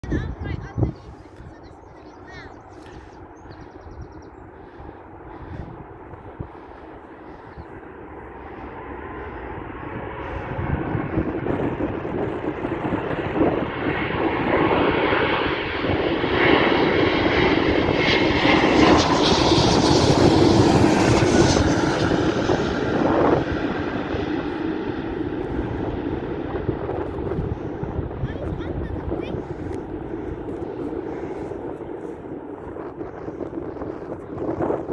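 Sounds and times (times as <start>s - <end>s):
jet airliner passing overhead: 0.0s - 34.9s.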